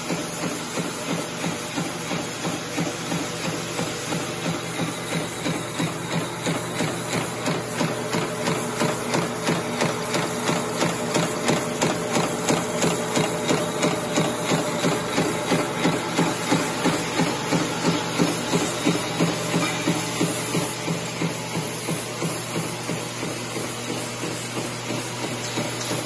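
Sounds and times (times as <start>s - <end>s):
machine motor hum with knocking: 0.0s - 26.0s.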